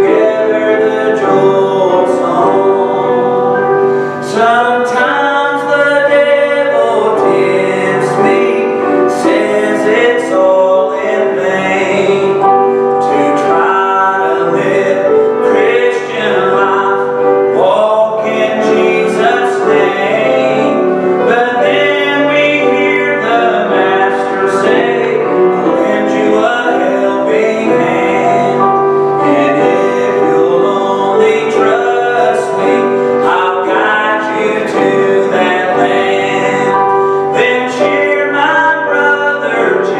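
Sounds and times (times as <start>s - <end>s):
grand piano accompaniment: 0.0s - 39.9s
man singing gospel song: 0.0s - 39.9s.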